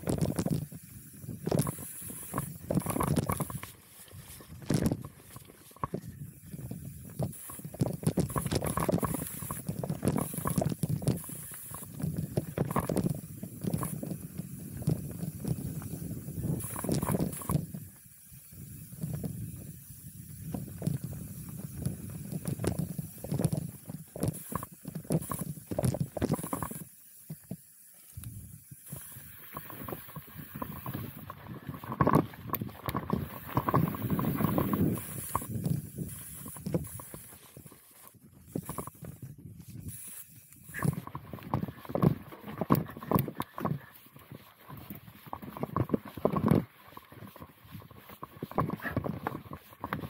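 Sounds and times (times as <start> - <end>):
wind on microphone: 0.0 - 3.7, 5.8 - 26.8, 28.2 - 50.0
bike rattling and knocking: 0.0 - 17.8, 20.6 - 27.5, 29.5 - 39.3, 40.7 - 50.0.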